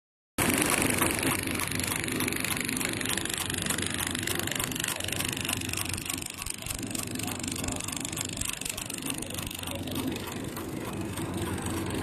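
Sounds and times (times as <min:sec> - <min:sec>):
mechanical clatter of feed rollers: 0:00.4 - 0:12.0
steady motor hum: 0:00.4 - 0:12.0.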